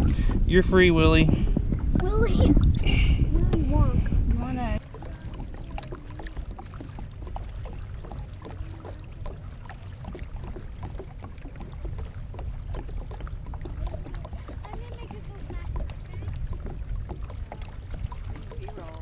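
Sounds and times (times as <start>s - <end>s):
knocks and splashes around kayak: 0.0s - 19.0s
wind rumble on microphone: 0.0s - 19.0s.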